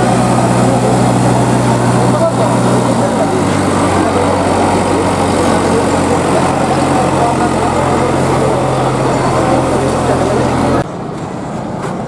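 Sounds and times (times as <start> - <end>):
engine humming: 0.0 - 11.4
busy noisy background: 0.0 - 12.0.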